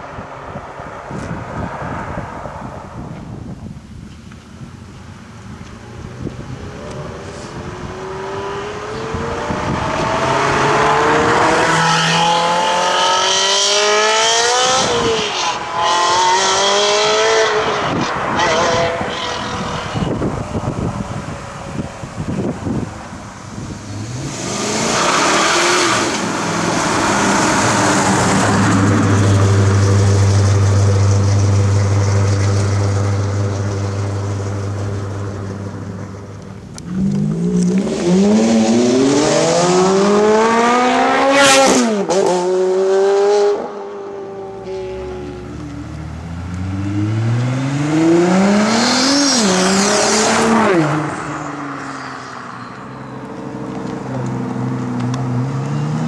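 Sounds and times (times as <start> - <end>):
car passing: 0.0 - 3.8, 5.5 - 56.0
car accelerating away: 5.6 - 56.0
car engine revving with upshifts: 5.6 - 56.0.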